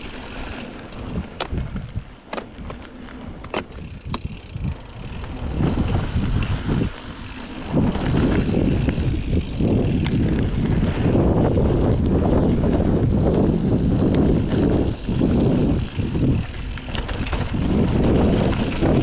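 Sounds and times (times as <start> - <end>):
bike clicks and rattles: 0.0 - 19.0
bike tyres rolling over dirt: 0.0 - 19.0
wind buffeting microphone: 0.0 - 19.0.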